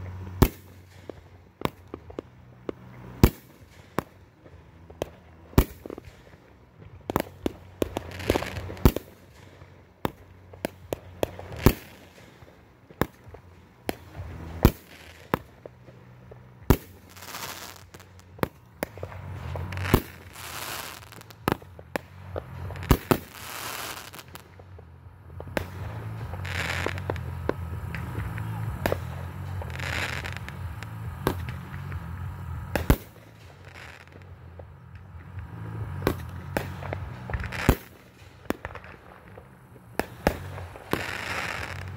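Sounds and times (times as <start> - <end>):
fireworks bangs: 0.0 - 41.9
fireworks sizzling hiss: 0.0 - 41.9.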